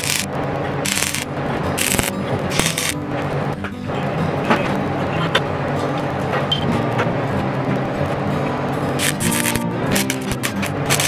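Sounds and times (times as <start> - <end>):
background music with low notes: 0.0 - 11.0.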